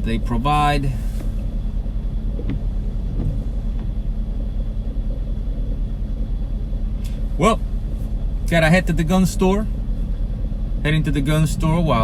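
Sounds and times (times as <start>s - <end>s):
car engine hum and road noise: 0.0s - 12.0s.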